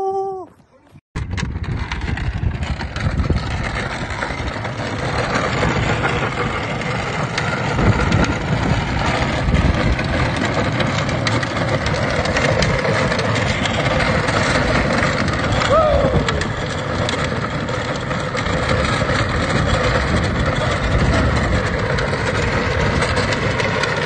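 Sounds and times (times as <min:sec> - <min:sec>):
plastic wheels rattling on rough ground: 0:00.6 - 0:24.0.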